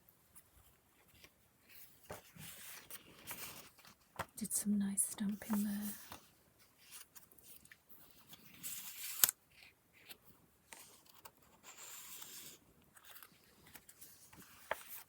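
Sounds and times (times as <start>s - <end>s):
paper pages rustling: 0.3s - 4.4s, 5.2s - 15.0s.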